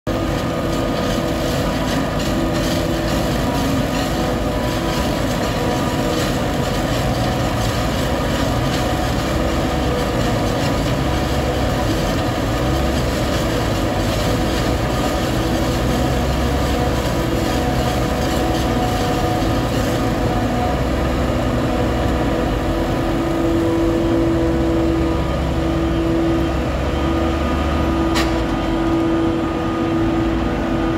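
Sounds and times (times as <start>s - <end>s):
forage harvester drone and whine: 0.1s - 30.9s
tractor engine: 0.1s - 30.9s.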